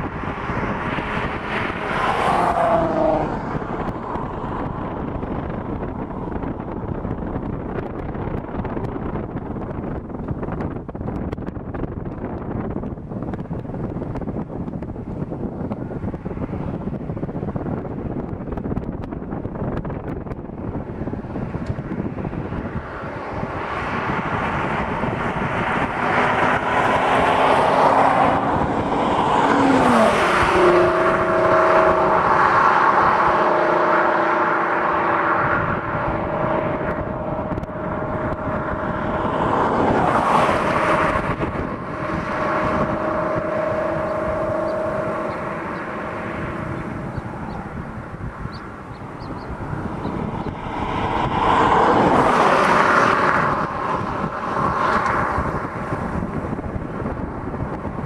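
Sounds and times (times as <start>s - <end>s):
car passing at speed: 0.0s - 9.4s, 20.6s - 58.0s
exhaust drone: 0.0s - 58.0s.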